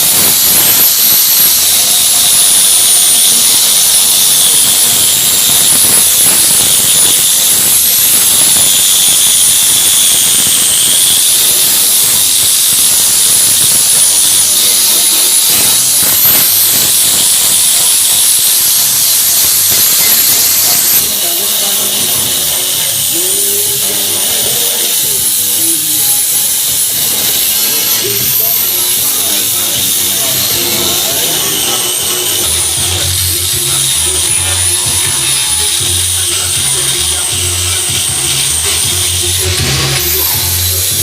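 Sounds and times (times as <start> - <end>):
loud hiss: 0.0 - 41.0
workshop tool running: 0.0 - 41.0.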